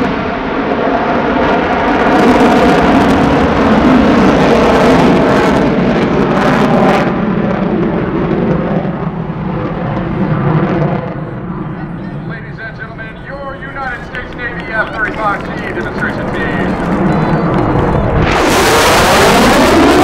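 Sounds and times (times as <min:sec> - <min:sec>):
fighter jet engines roaring: 0:00.0 - 0:20.0.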